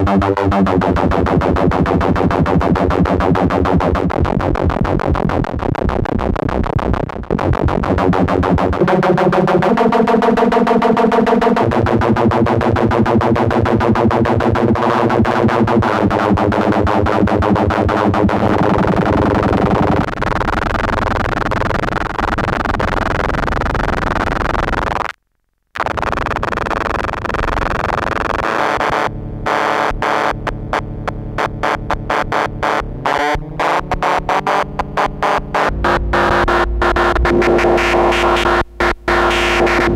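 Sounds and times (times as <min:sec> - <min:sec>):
buzzy synthesizer notes: 0:00.0 - 0:25.2, 0:25.8 - 0:39.9.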